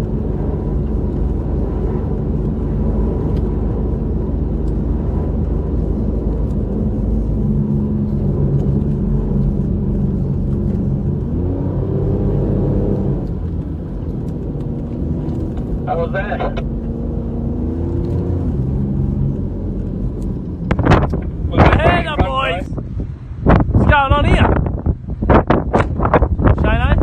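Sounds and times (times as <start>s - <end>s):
engine drone inside cabin: 0.0s - 23.4s.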